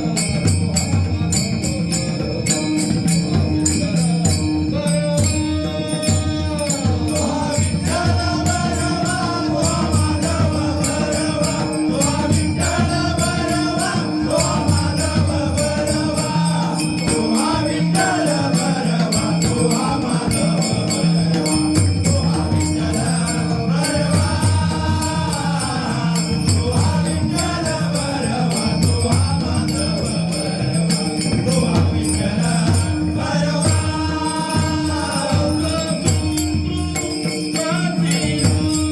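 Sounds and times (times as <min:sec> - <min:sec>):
man singing: 0:00.0 - 0:38.9
small hand cymbals: 0:00.0 - 0:38.9.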